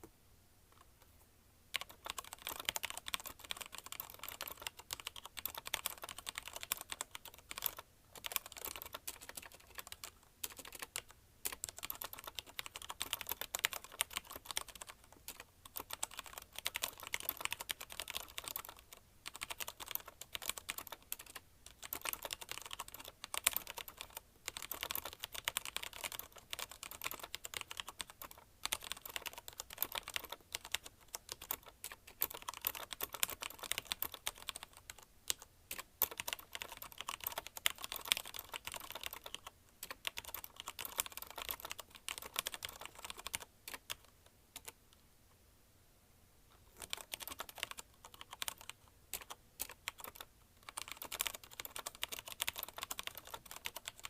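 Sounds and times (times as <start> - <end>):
mechanical keyboard typing: 1.7 - 44.8, 46.7 - 54.0.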